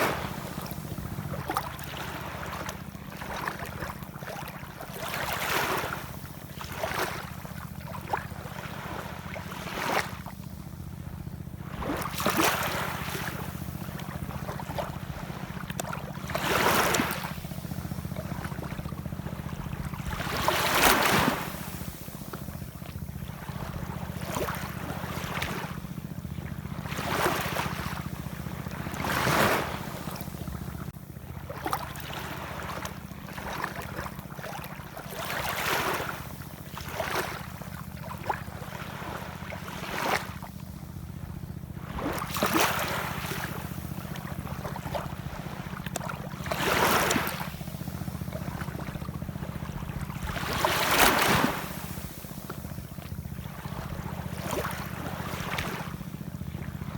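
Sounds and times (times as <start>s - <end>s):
ocean waves washing in: 0.0s - 56.9s.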